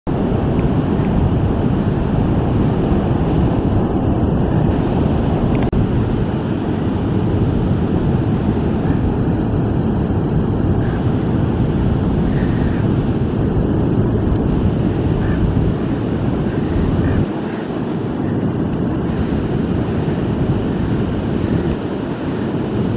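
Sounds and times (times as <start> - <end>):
ocean surf: 0.1 - 22.9
wind buffeting microphone: 0.1 - 22.9.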